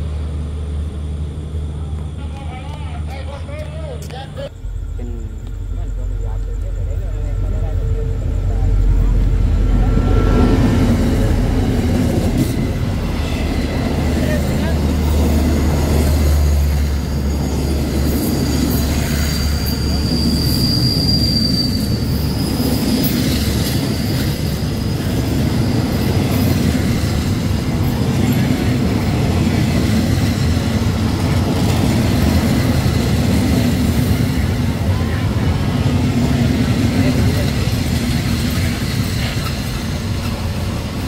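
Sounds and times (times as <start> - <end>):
train squealing: 0.0 - 41.0
train wheels rumbling on rails: 0.0 - 41.0.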